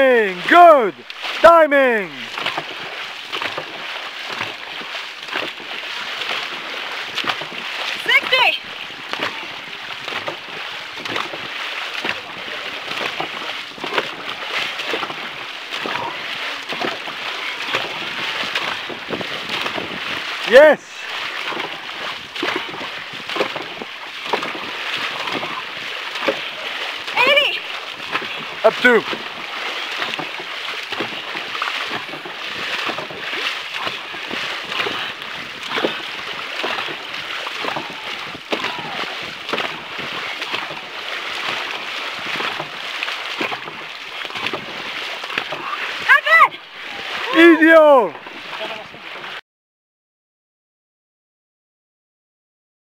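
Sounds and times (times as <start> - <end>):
paddles splashing through water: 0.0 - 49.4
water rushing past hull: 0.0 - 49.4.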